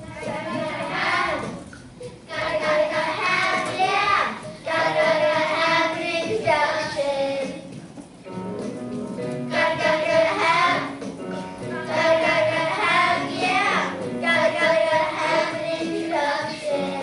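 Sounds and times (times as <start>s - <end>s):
children singing: 0.0s - 7.6s, 9.5s - 11.0s, 11.7s - 17.0s
instrumental backing music: 0.0s - 17.0s.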